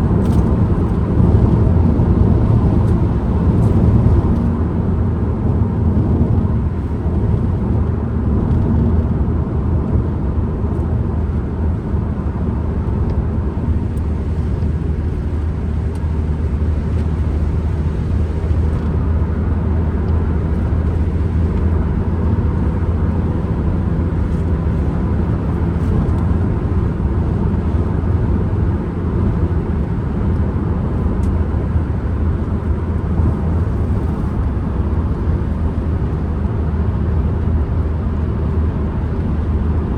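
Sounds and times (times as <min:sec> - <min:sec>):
road and wind noise: 0:00.0 - 0:39.9
van engine drone: 0:00.0 - 0:39.9.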